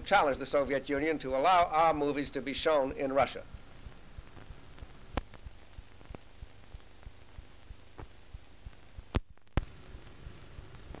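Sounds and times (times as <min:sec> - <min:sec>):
film soundtrack hiss and crackle: 0:00.0 - 0:11.0.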